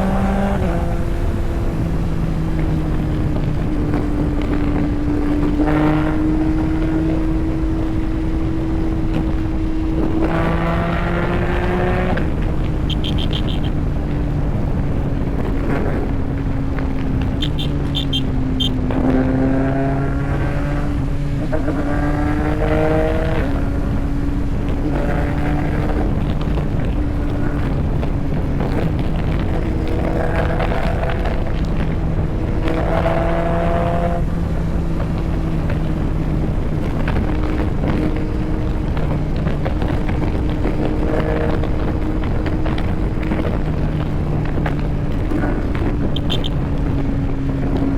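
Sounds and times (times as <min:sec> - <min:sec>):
motorcycle engine accelerating: 0:00.0 - 0:47.9
road and wind noise: 0:00.0 - 0:47.9.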